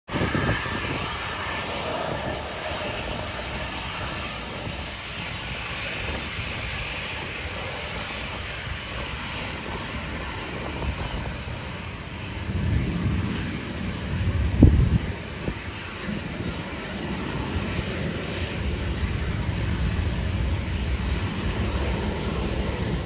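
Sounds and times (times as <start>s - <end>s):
jet engines running: 0.1s - 23.0s.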